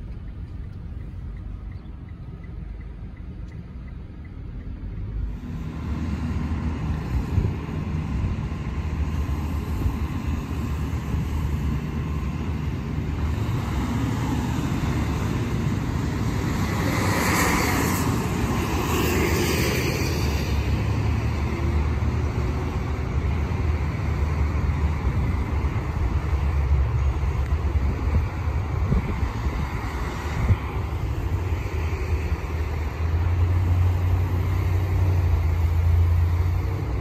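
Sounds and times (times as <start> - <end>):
low rumble of road traffic: 0.0 - 37.0
car passing close: 5.1 - 37.0.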